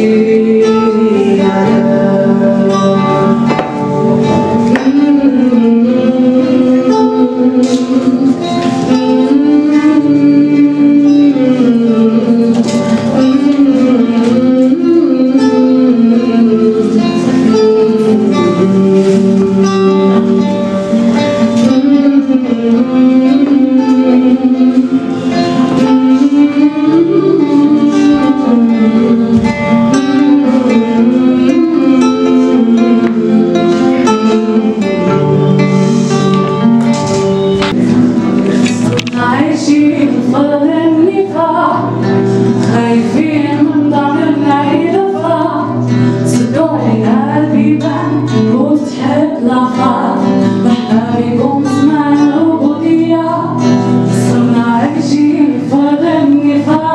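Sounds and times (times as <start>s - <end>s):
acoustic guitar playing: 0.0s - 56.9s.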